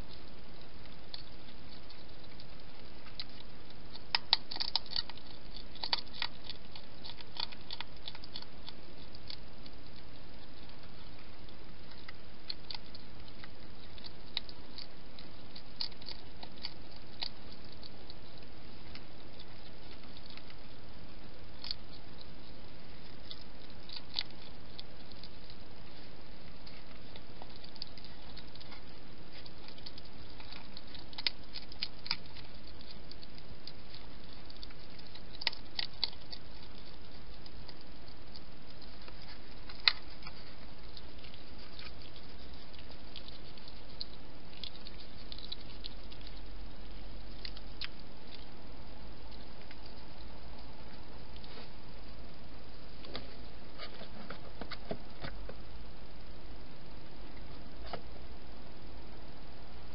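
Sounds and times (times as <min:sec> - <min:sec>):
camera microphone hiss: 0:00.0 - 0:59.9
hedgehog feeding clicks and crunches: 0:00.0 - 0:59.9.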